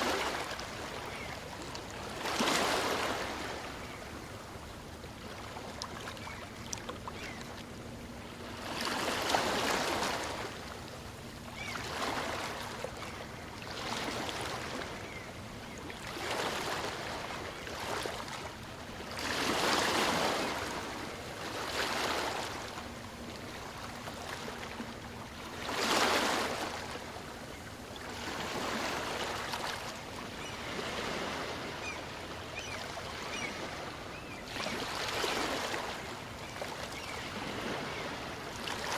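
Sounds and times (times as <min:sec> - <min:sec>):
small waves washing on shore: 0:00.0 - 0:15.2, 0:15.9 - 0:38.9.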